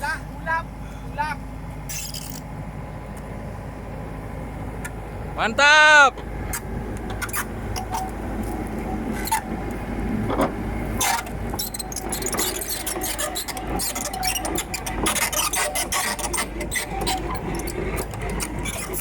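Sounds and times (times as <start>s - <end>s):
excavator running: 0.0s - 19.0s.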